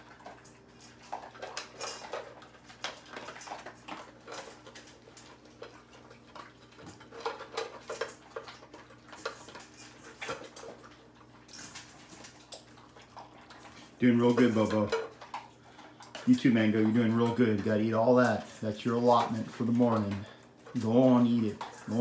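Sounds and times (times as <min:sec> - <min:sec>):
dogs eating from bowls: 0:00.0 - 0:22.0.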